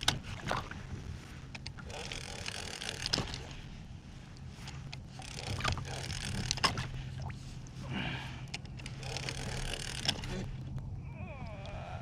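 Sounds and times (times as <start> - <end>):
water lapping against kayak hull: 0.0 - 10.7
steady low rumble: 0.0 - 12.0.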